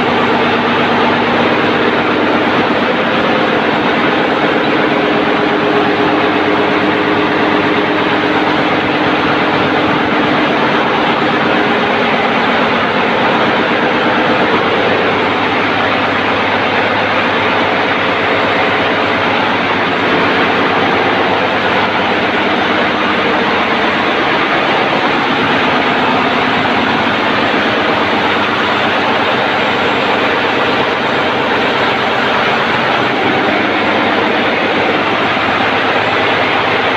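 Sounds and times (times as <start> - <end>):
marine diesel engine running: 0.0 - 36.9.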